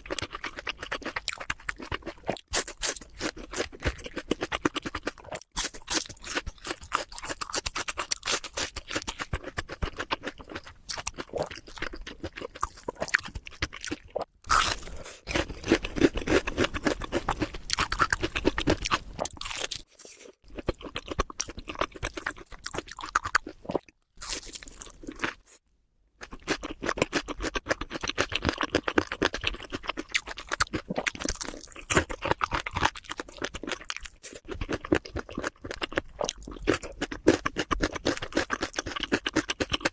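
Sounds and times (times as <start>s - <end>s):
chewing and crunching food: 0.0s - 25.6s, 26.2s - 39.9s.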